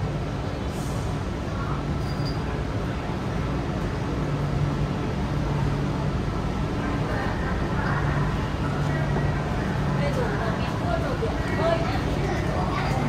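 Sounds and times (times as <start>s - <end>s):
train car rumble: 0.0s - 13.0s.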